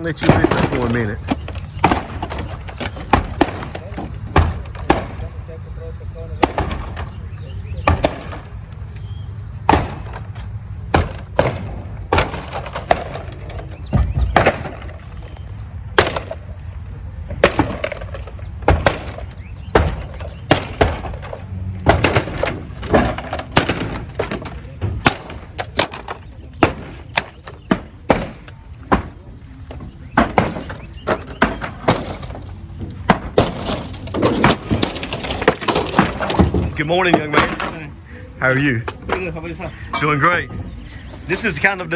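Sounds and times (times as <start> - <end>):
wood cracking and splintering: 0.0 - 5.6, 6.3 - 39.4.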